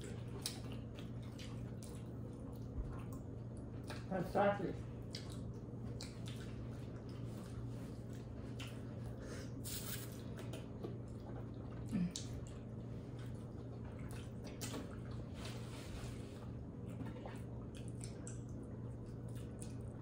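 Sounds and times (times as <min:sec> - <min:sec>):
wet squishy chewing: 0:00.0 - 0:20.0.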